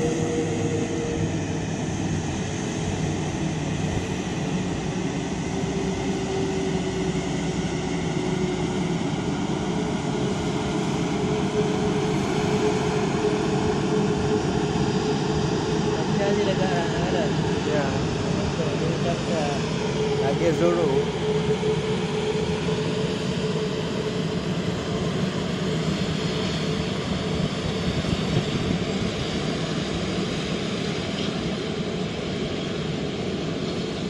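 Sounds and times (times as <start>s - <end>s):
jet engines idling: 0.0s - 34.0s.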